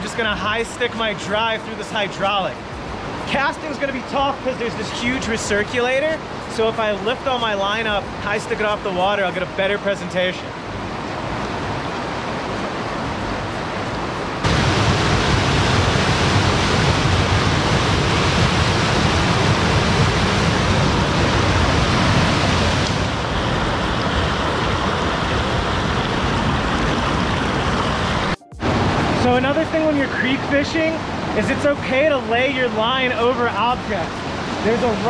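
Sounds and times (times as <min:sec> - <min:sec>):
water rushing over rocks: 0:00.0 - 0:35.0.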